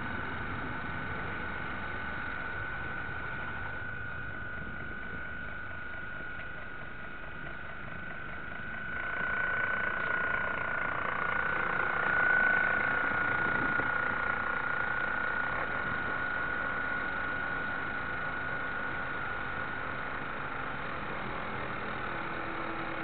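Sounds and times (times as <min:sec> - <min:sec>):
model boat motor whining: 0:00.0 - 0:23.0.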